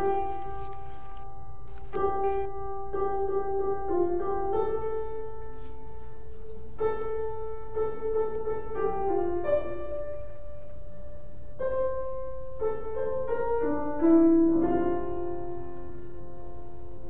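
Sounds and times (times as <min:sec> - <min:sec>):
slow hymn on piano: 0:00.0 - 0:17.0.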